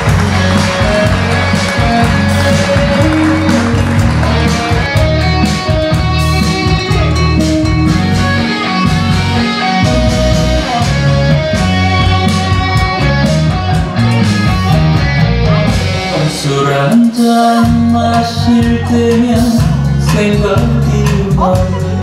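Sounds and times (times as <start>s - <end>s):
drums: 0.0s - 22.0s
melodic lead line: 0.0s - 22.0s
pop band instrumental: 0.0s - 22.0s.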